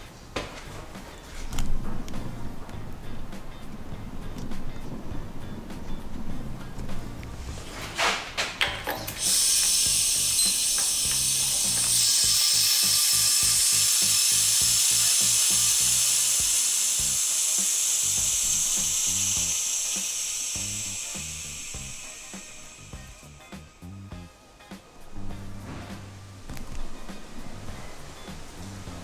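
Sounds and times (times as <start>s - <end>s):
air hissing through vacuum line: 1.8s - 29.0s.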